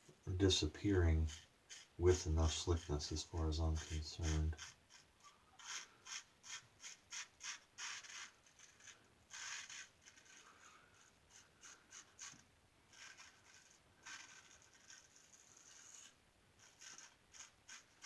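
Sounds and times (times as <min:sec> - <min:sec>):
razor scraping stubble: 0:00.4 - 0:18.0.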